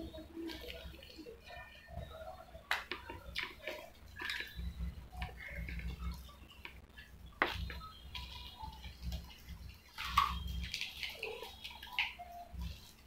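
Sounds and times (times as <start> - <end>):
squishes of soft food: 0.0 - 13.0.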